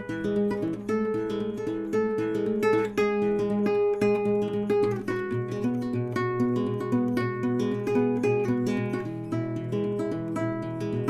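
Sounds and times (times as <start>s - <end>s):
acoustic guitar picked notes: 0.0s - 11.0s.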